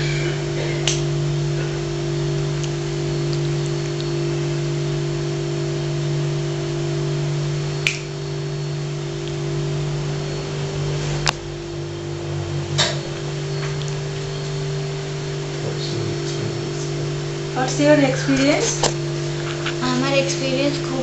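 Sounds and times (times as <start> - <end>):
electrical hum with tones: 0.0 - 21.0.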